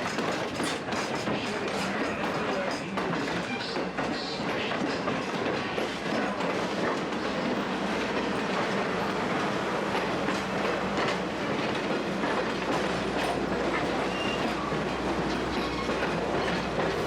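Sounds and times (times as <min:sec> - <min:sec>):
railroad car rumbling: 0:00.0 - 0:17.0
wheels clicking over rail joints: 0:00.0 - 0:17.0.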